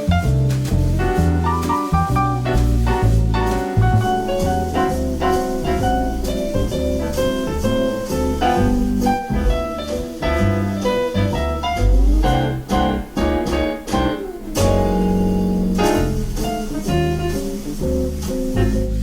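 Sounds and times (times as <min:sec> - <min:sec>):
jazz piano with bass and drums: 0:00.0 - 0:19.0.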